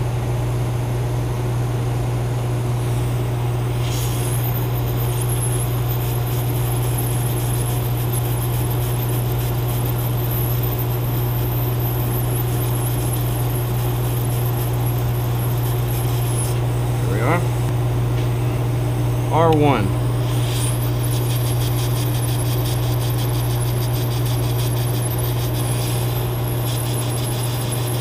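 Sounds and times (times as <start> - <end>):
hot air blower hissing: 2.6 - 17.7, 19.2 - 28.0.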